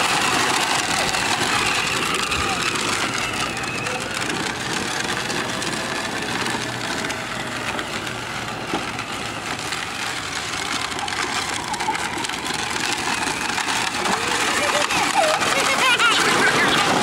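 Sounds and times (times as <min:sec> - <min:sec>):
plastic wheels rolling over gravel: 0:00.0 - 0:17.0.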